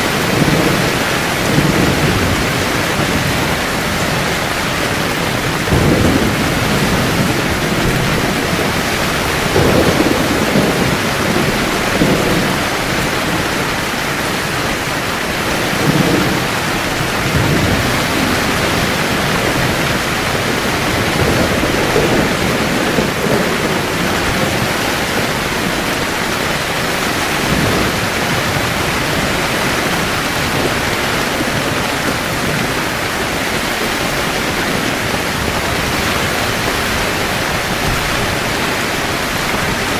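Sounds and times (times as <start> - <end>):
heavy rain on a tent: 0.0 - 39.9
thunder rumbling: 0.0 - 39.9.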